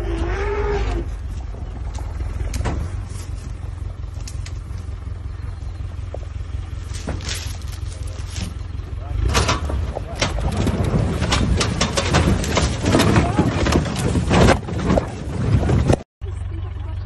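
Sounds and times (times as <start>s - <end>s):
vehicle engine rumbling: 0.0s - 17.0s
knocks and rattles: 1.3s - 16.0s.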